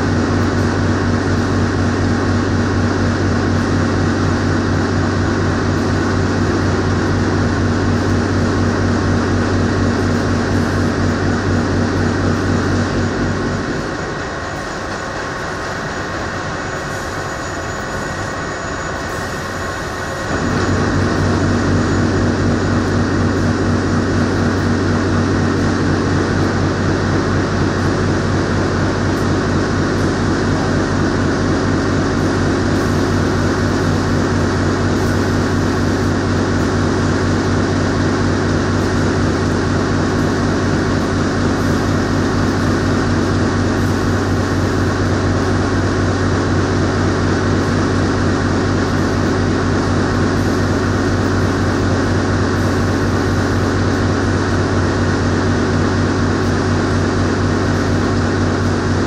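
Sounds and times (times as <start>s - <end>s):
factory machinery running: 0.0s - 59.0s
loud low hum: 0.0s - 59.0s.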